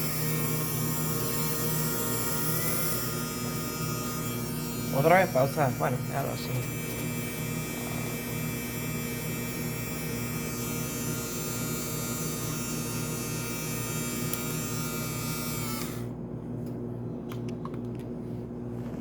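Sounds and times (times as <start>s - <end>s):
electric motor humming: 0.0s - 16.2s
high motor whine: 0.0s - 16.2s.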